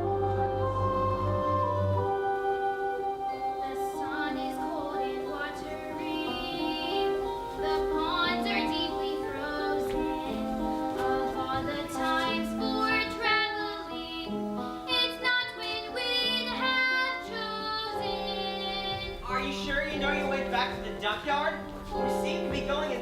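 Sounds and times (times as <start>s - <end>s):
musical accompaniment: 0.0s - 23.0s
person singing: 0.0s - 23.0s.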